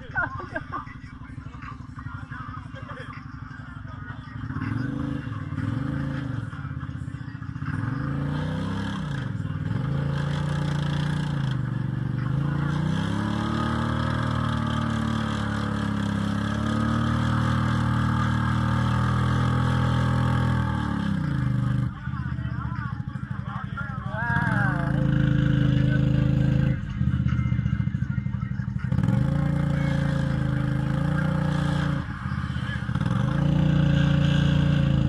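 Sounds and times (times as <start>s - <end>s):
engine revving: 4.4s - 28.1s, 28.8s - 35.0s.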